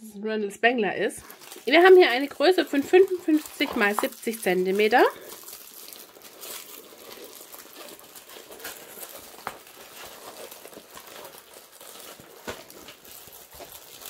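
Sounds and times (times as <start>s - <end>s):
plastic film crinkling and rustling: 0.9s - 14.0s.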